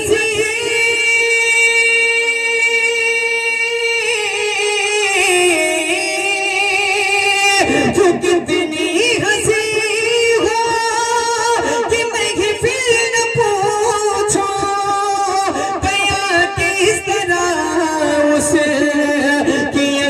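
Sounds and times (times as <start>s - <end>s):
man singing into microphone: 0.0s - 20.0s.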